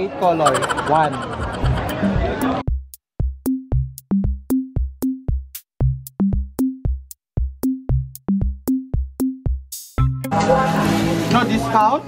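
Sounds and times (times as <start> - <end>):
drum machine beat: 0.4 - 10.1.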